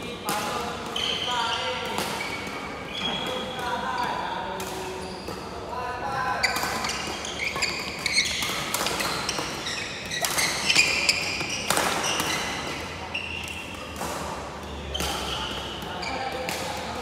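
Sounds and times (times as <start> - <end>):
racket hitting shuttlecock: 0.2 - 5.6, 6.4 - 17.0
shoes squeaking on court floor: 0.3 - 5.6, 6.3 - 17.0.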